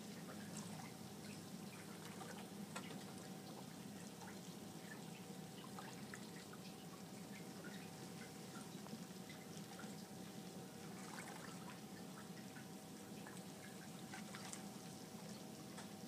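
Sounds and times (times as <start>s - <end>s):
steady low hum: 0.0s - 16.0s
water splashes and drips: 0.0s - 16.0s.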